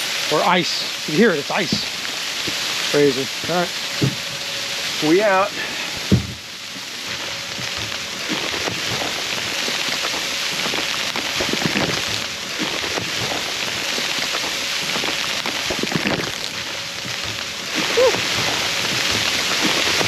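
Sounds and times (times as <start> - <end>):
sleet and rain on a tarp: 0.0 - 20.0.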